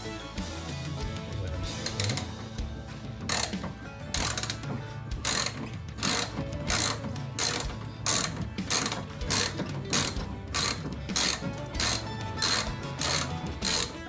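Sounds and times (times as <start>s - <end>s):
hand ratchet clicking: 1.7s - 2.4s, 3.2s - 14.0s.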